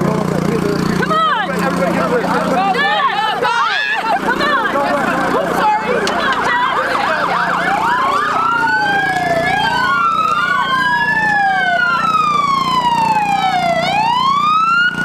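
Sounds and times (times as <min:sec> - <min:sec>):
emergency vehicle sirens wailing: 0:00.9 - 0:15.0.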